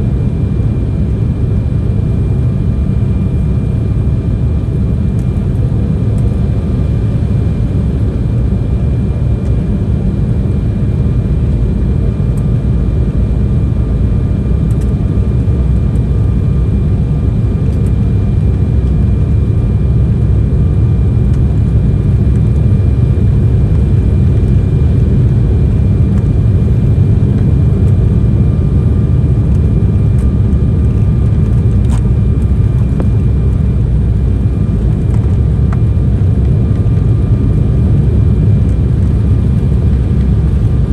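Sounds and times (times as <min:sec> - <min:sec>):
airliner cabin rumble: 0:00.0 - 0:40.9
faint steady whine: 0:00.0 - 0:40.9.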